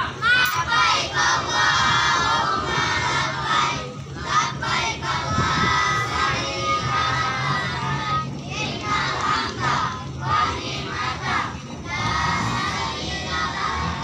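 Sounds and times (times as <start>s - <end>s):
children chanting: 0.0s - 14.0s.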